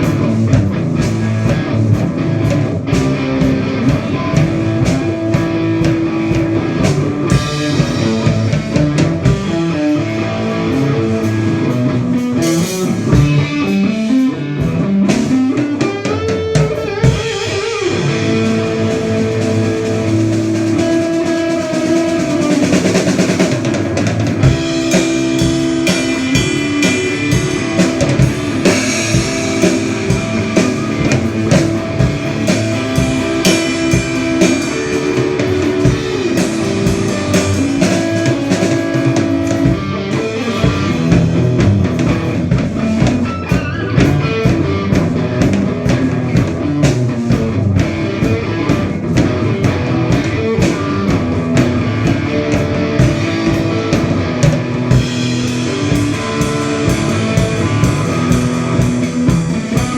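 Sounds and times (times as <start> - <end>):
electric guitar notes climbing: 0.0 - 59.9
rock band playing: 0.0 - 59.9.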